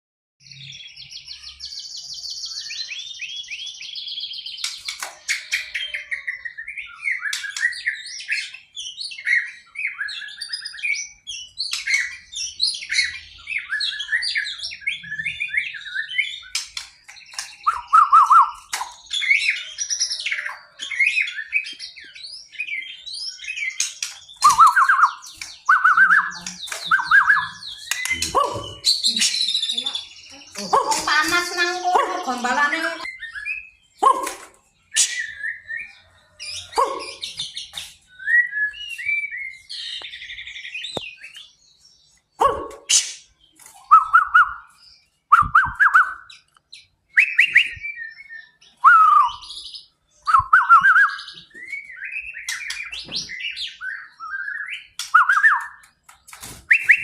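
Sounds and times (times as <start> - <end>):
bird singing whistled trills: 0.4 - 4.8, 5.4 - 31.6, 33.0 - 34.2, 34.8 - 56.0, 56.6 - 57.0.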